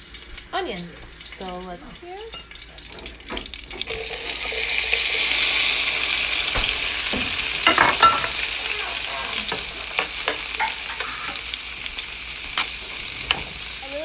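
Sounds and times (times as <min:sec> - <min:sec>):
vegetables sizzling in pan: 0:00.0 - 0:14.0
utensil stirring in pan: 0:02.4 - 0:14.0.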